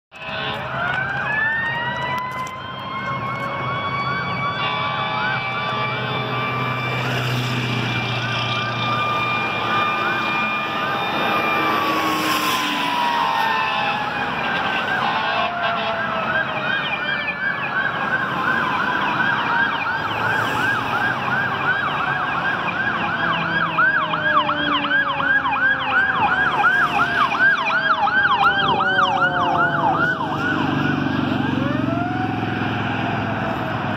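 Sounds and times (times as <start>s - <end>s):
electronic siren yelping: 0.2s - 33.9s
mechanical siren winding down: 0.2s - 33.9s
single rising siren tone: 0.2s - 33.9s.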